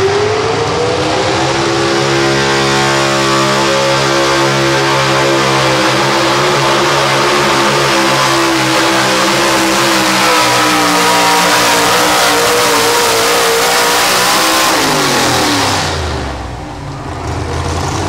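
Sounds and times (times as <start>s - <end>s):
truck engine revving under load: 0.0s - 18.0s.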